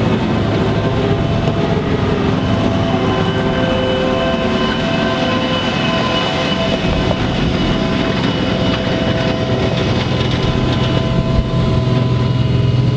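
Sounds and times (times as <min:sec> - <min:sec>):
diesel engine rumble: 0:00.0 - 0:12.9
machinery whining: 0:00.0 - 0:12.9.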